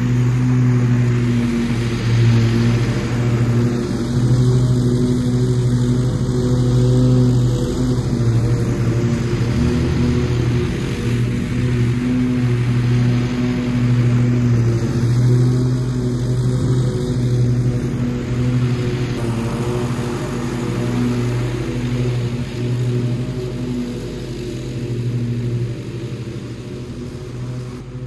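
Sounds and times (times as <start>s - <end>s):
mower engine running: 0.0s - 28.0s.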